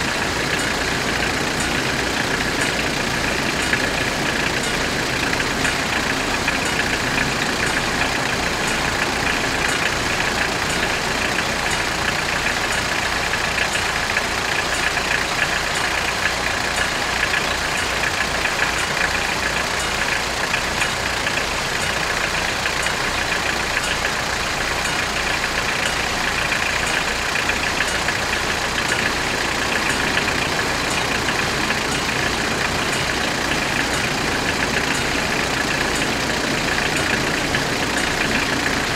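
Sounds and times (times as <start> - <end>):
level crossing bells ringing: 0.0 - 38.9
vehicle engines idling: 0.0 - 38.9.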